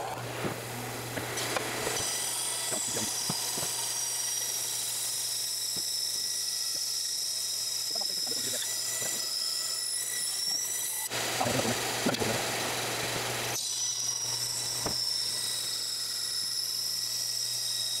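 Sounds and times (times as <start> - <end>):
bandsaw high whine: 0.0 - 18.0.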